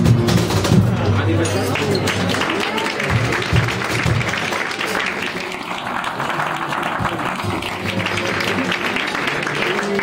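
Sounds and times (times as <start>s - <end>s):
many hands clapping: 1.4s - 10.0s.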